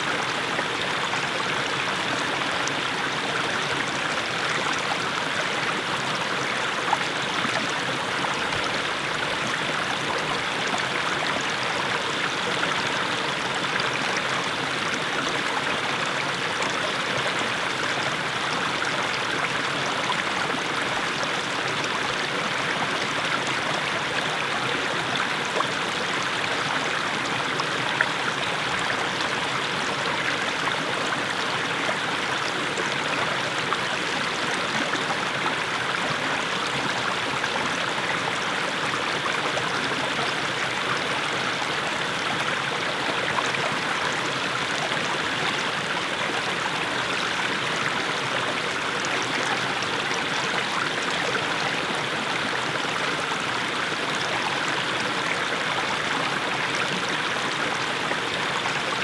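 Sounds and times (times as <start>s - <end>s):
brook babbling over stones: 0.0s - 59.0s.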